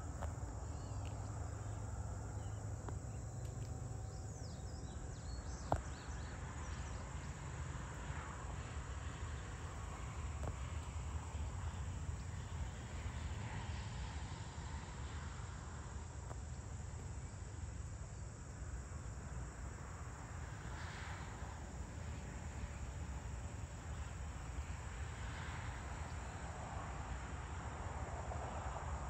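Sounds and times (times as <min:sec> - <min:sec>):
crickets and insects chirring: 0:00.0 - 0:29.0.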